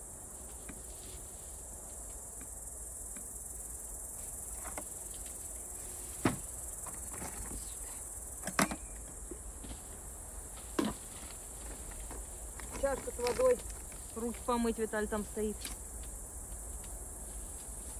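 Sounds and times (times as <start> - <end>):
insects chirring: 0.0 - 17.9.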